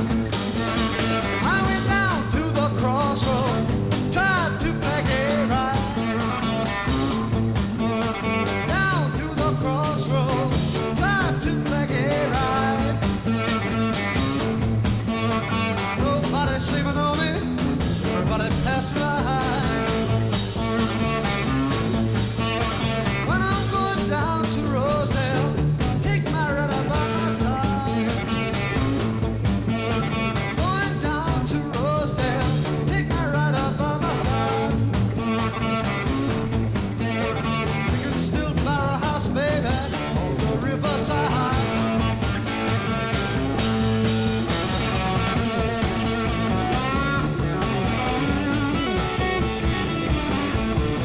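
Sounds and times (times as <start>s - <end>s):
rock backing music: 0.0s - 51.0s.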